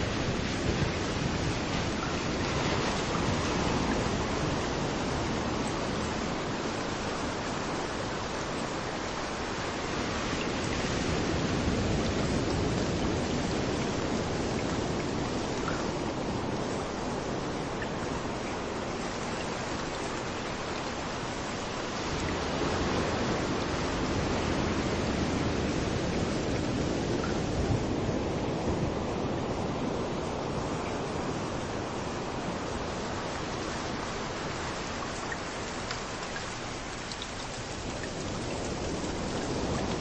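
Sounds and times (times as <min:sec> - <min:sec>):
rain falling: 0:00.0 - 0:40.0
waves rolling onto beach: 0:00.0 - 0:40.0.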